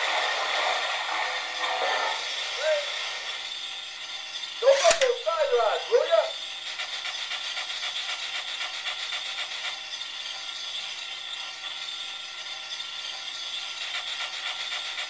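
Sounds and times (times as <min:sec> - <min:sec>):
rasping hiss of steam: 0:00.0 - 0:15.0.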